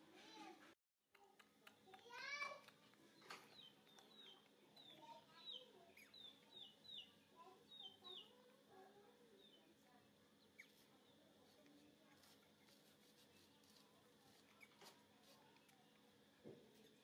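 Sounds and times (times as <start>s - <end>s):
small bird chirping: 1.2s - 16.1s.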